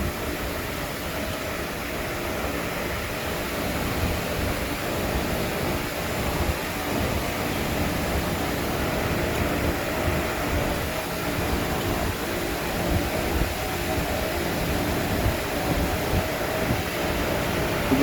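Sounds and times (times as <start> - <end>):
machine hiss and hum: 0.0 - 18.0.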